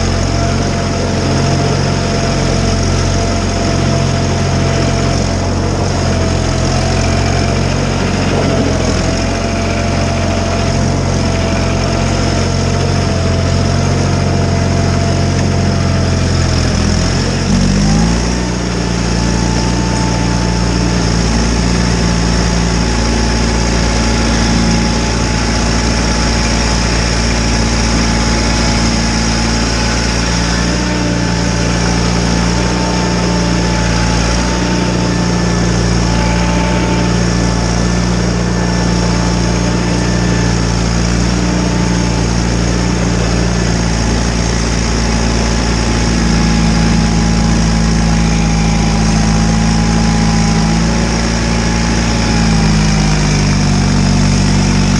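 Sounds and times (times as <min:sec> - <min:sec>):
garden tractor engine running: 0:00.0 - 0:54.9.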